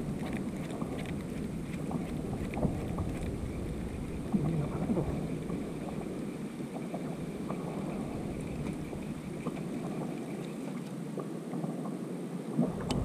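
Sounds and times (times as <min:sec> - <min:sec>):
water lapping against kayak hull: 0:00.0 - 0:11.9
wind on microphone: 0:00.0 - 0:13.0.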